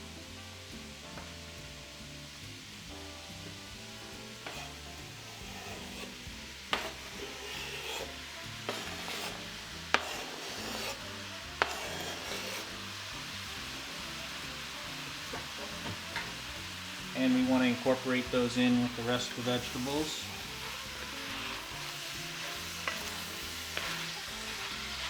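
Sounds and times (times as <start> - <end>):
vegetables sizzling in oil: 0.0 - 25.0
stirring in a pot: 0.7 - 25.0.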